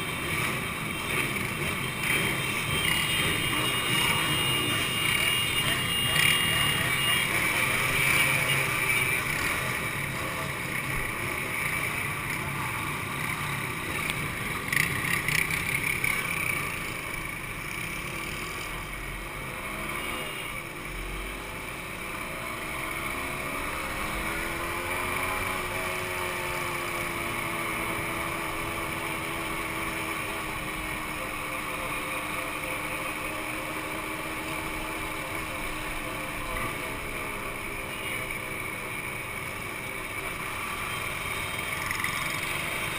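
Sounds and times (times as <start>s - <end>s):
two-stroke motorcycle engines: 0.0s - 42.9s.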